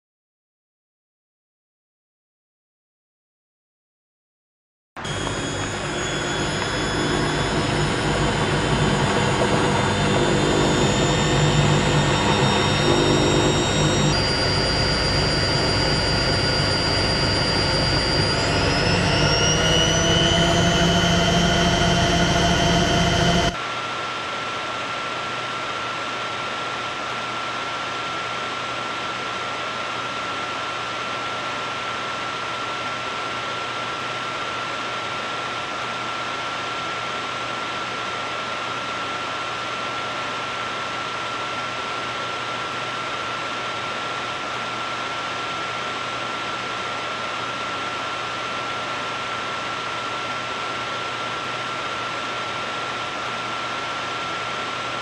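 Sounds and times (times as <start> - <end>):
jet engine hiss and whine: 5.0 - 55.0.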